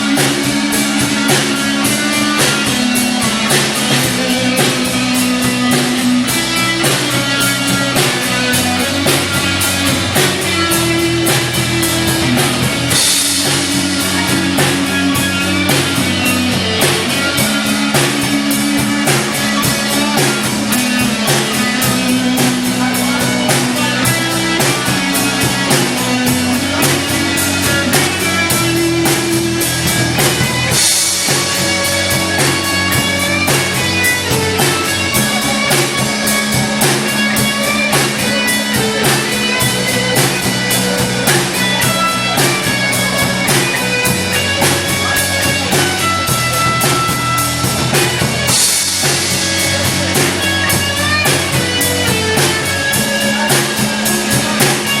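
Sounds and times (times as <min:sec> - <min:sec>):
fast drum beat: 0:00.0 - 0:55.0
guitar notes: 0:00.0 - 0:55.0.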